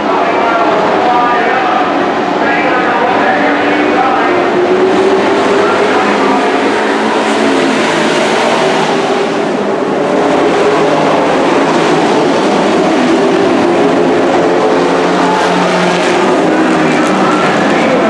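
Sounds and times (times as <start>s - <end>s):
race truck engines roaring: 0.0s - 18.0s.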